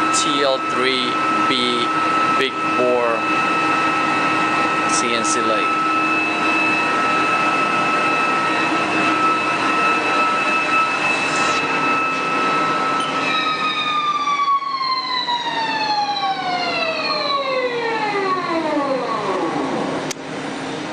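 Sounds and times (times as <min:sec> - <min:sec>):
lathe spindle whining: 0:00.0 - 0:20.2.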